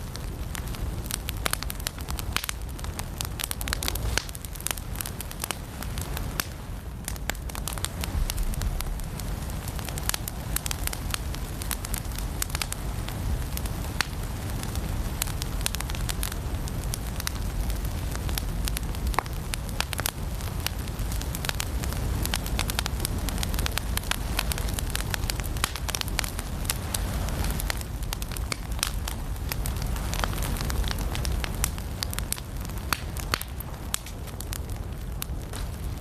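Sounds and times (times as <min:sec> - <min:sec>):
firewood crackling and popping: 0:00.0 - 0:36.0
low steady fire rumble: 0:00.0 - 0:36.0.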